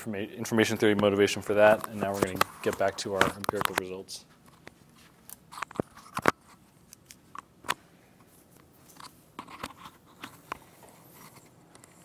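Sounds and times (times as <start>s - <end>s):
lapel microphone handling noise: 0.7s - 12.0s.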